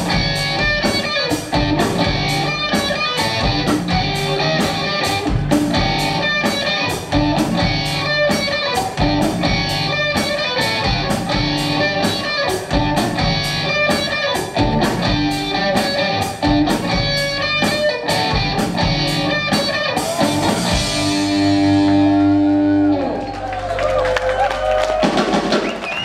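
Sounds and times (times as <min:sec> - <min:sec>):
cymbals keeping a beat: 0:00.0 - 0:22.1
rock band playing: 0:00.0 - 0:26.0.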